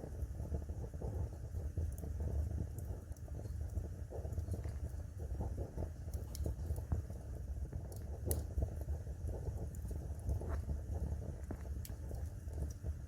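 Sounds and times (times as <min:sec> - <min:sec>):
fire crackles and pops: 0:00.0 - 0:13.0
fire flames rumbling: 0:00.0 - 0:13.0.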